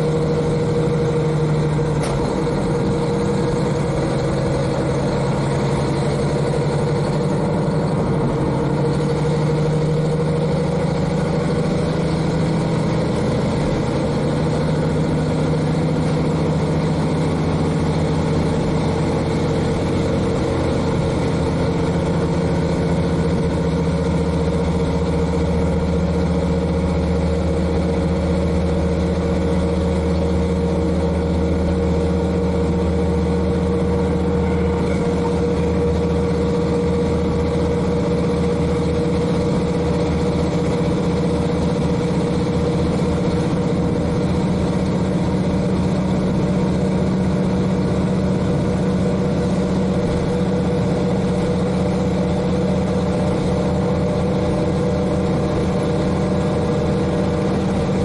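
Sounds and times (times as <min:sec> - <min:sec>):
deep hum: 0:00.0 - 0:58.0
diesel railcar engine running: 0:00.0 - 0:58.0.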